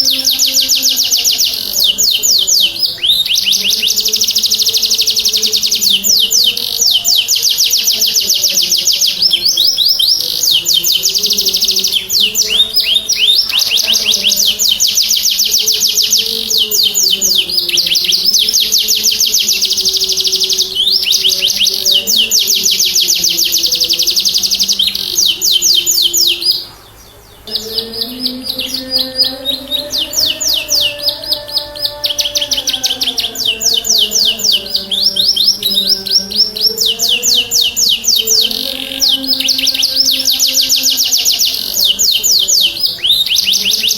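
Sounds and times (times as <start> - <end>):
canary singing: 0.0 - 43.9
faint background music: 0.0 - 43.9.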